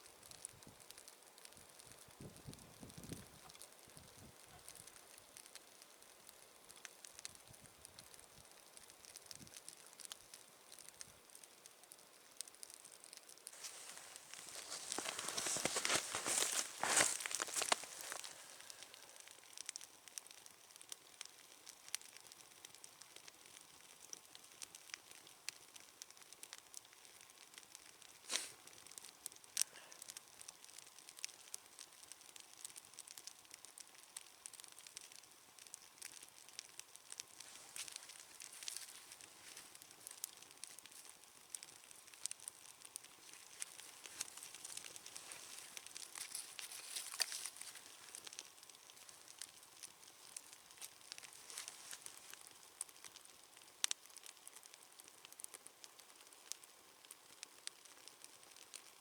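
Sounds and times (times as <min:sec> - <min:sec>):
campfire crackling: 0:00.0 - 0:59.0
fire popping: 0:00.0 - 0:59.0.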